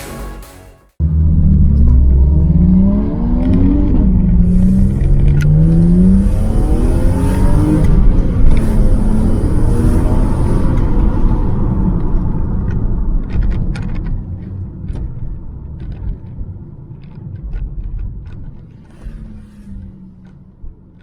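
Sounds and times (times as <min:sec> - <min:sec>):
car engine rumble: 0:01.0 - 0:21.0.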